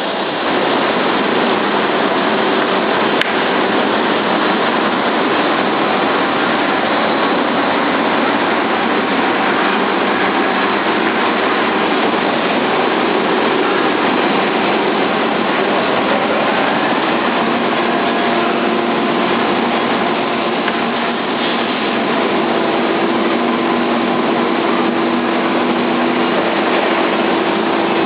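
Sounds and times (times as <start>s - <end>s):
belt sanding machine running: 0.0s - 28.0s.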